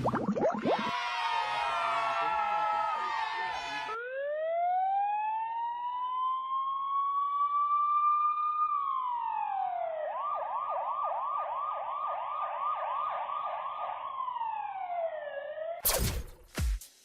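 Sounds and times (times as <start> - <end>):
cartoon siren: 0.0 - 15.8.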